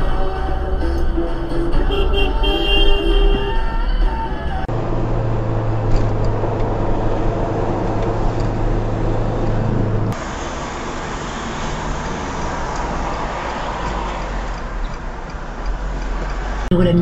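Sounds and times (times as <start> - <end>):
engine and traffic noise: 0.0 - 17.0
vehicle engine and road noise: 0.0 - 17.0.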